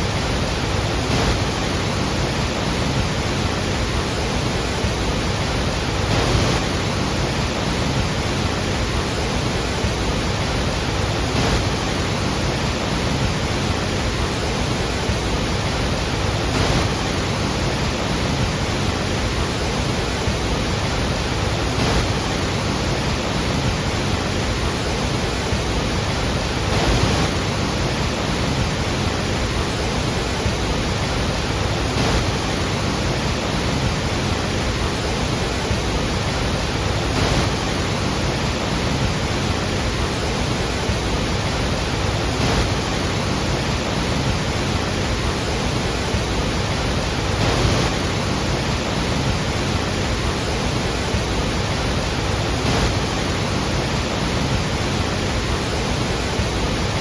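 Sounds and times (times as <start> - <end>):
heavy falling water rushing: 0.0 - 57.0.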